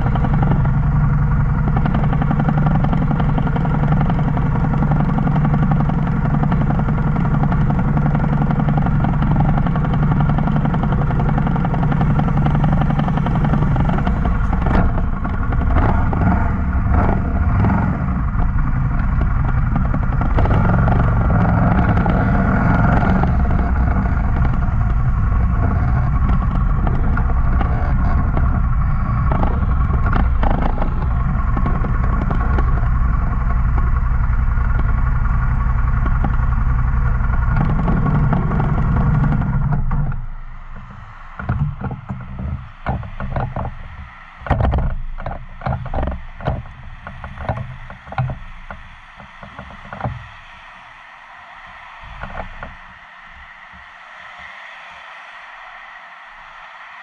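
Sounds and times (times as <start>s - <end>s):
irregular knocks and clatter: 0.0s - 50.8s, 51.8s - 53.0s
motorcycle engine rumbling: 0.0s - 53.5s.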